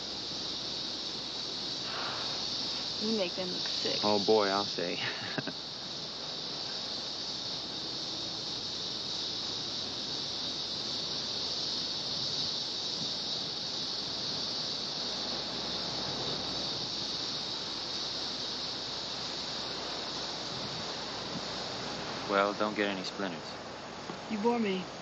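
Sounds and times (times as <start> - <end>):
cicadas buzzing: 0.0 - 25.0.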